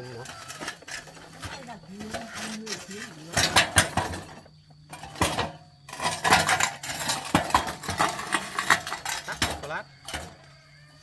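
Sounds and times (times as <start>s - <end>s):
metal tools clinking: 0.0s - 10.5s.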